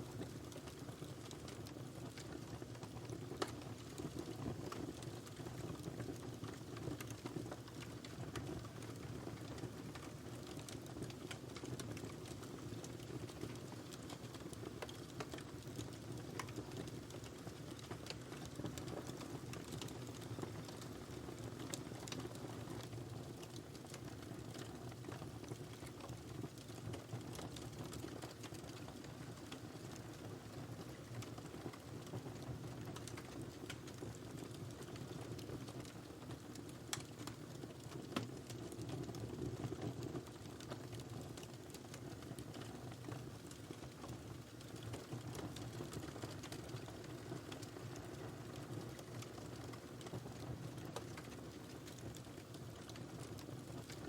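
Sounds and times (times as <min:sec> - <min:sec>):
fire crackling and popping: 0:00.0 - 0:54.0
low rumble of flames: 0:00.1 - 0:54.0.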